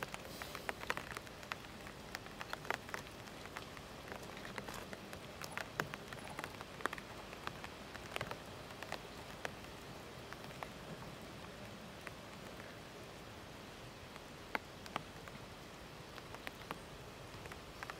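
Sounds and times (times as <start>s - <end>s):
light clicks and ticks: 0.0s - 12.8s, 14.1s - 17.9s
steady outdoor hiss: 0.0s - 17.9s.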